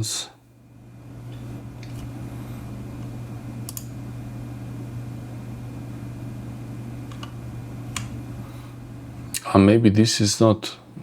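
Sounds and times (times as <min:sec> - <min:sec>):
computer fans humming: 0:00.0 - 0:11.0.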